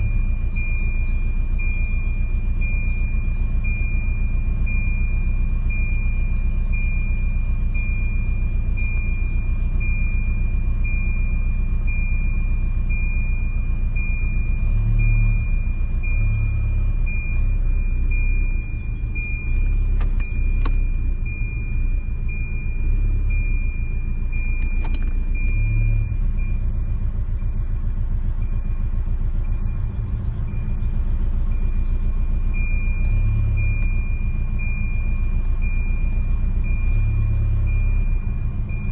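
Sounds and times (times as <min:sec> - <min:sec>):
car engine idling roughly: 0:00.0 - 0:38.9.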